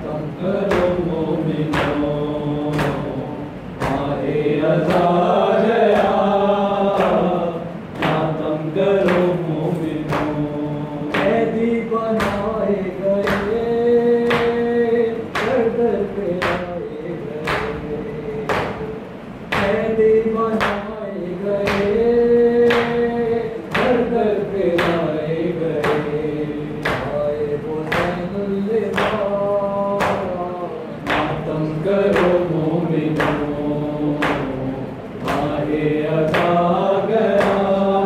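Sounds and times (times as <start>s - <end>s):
men chanting a lament: 0.0s - 38.0s.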